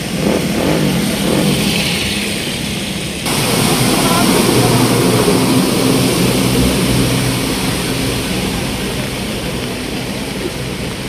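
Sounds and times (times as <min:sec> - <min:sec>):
vehicle engines idling: 0:00.0 - 0:11.0
floodwater rushing: 0:00.6 - 0:11.0.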